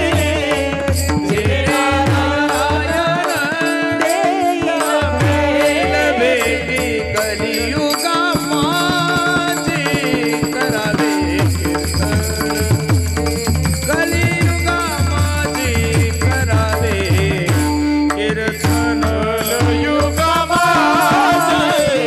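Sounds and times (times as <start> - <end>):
men singing in chorus: 0.0 - 22.0.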